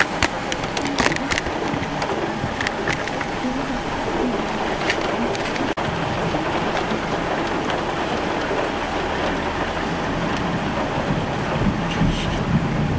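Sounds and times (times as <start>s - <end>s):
heavy rain hissing: 0.0s - 12.9s
raindrops ticking on glass: 0.0s - 12.9s.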